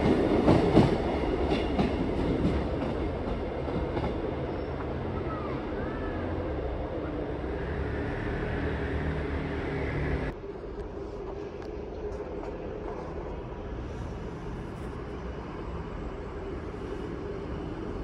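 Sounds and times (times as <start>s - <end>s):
distant train noise: 0.0s - 18.0s.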